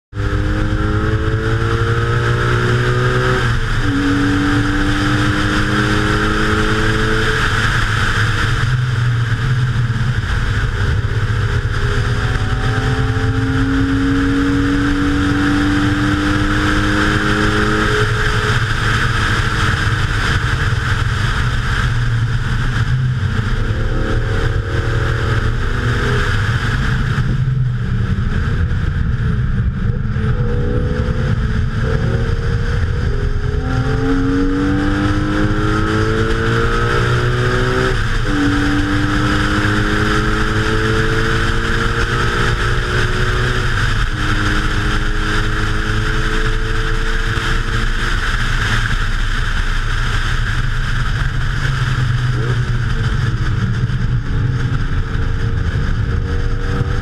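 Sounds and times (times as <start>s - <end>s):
racing car engine accelerating: 0.1s - 57.0s
wind rush on microphone: 0.1s - 57.0s.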